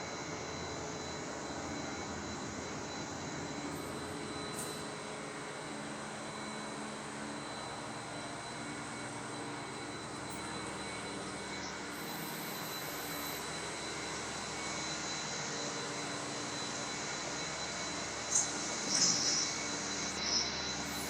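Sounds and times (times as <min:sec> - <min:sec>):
industrial machinery running: 0:00.0 - 0:21.0.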